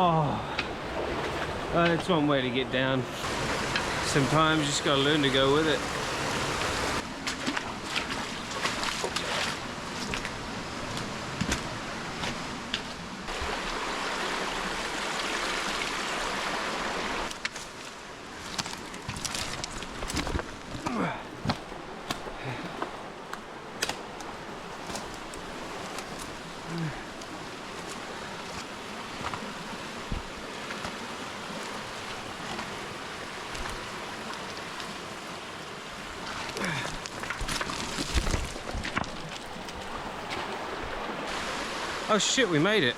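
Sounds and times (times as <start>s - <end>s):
water rushing over rocks: 0.0s - 42.9s.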